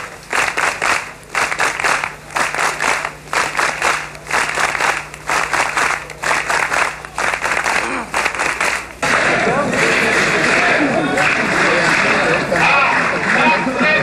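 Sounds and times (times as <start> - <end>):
crowd clapping in unison: 0.0 - 14.0.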